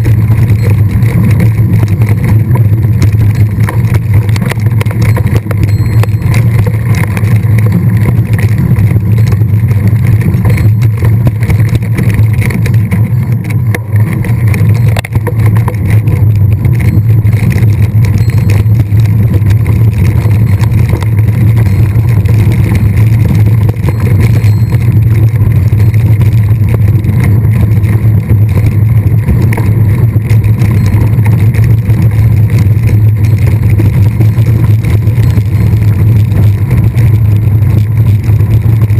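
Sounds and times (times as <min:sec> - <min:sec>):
bike tyres on trail: 0:00.0 - 0:38.9
wind rumble: 0:00.0 - 0:38.9.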